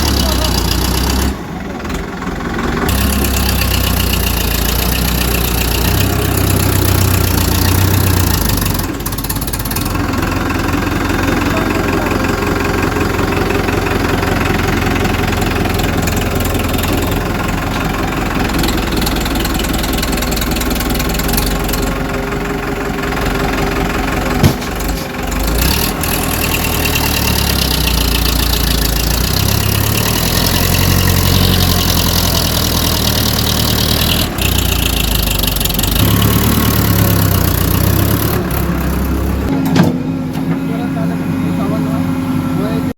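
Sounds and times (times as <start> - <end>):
tractor engine knocking idle: 0.0 - 42.8.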